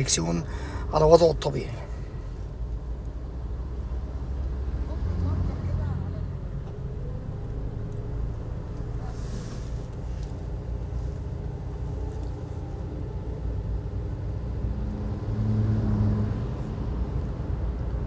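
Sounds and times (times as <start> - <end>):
low rumble: 0.0 - 15.4.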